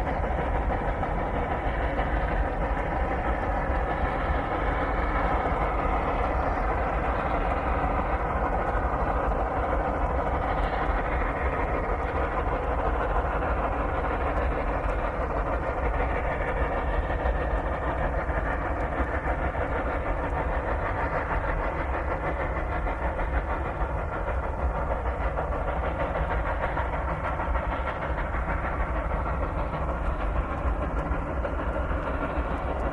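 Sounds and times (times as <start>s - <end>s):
steam locomotives chuffing: 0.0s - 32.9s.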